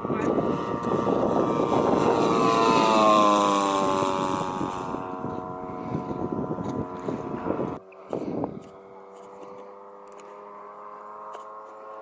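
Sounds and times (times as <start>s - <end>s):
model plane engine drone: 0.0s - 12.0s.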